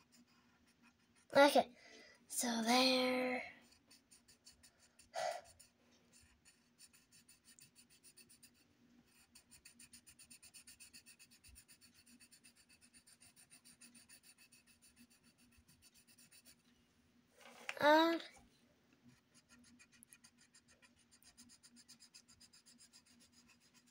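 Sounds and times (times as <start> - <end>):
pencil scratching on paper: 0.0 - 1.8, 2.4 - 16.6, 19.0 - 23.9.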